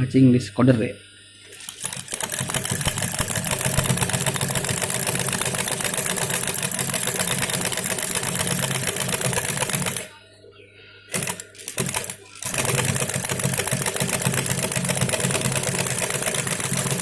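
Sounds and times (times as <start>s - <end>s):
industrial sewing machine stitching: 1.6s - 10.1s, 11.1s - 17.0s.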